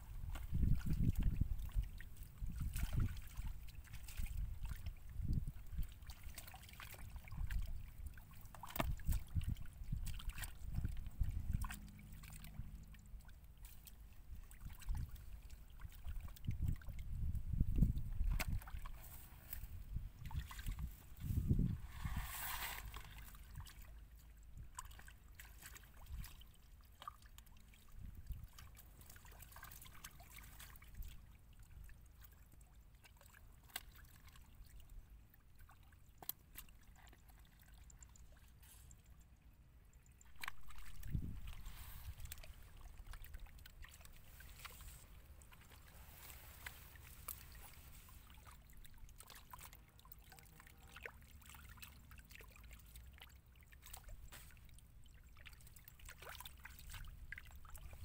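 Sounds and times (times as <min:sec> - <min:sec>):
hands sloshing in muddy water: 0:00.1 - 0:34.6, 0:40.1 - 0:58.0
small splashes: 0:00.1 - 0:58.0.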